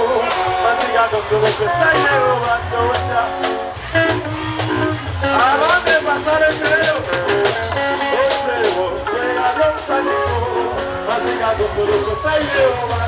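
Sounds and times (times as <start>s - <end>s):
amplified music with heavy bass: 0.0s - 13.0s
man singing into a microphone: 0.0s - 13.0s.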